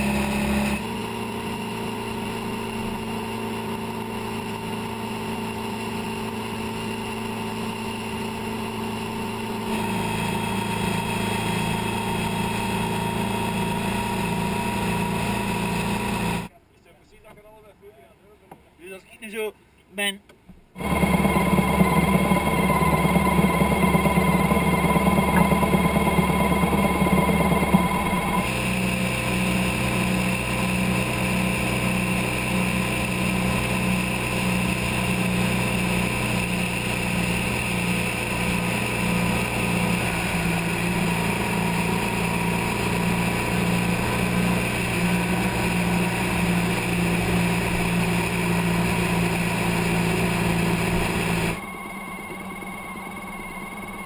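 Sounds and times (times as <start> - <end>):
motorcycle engine running: 0.0 - 16.5, 20.8 - 54.0.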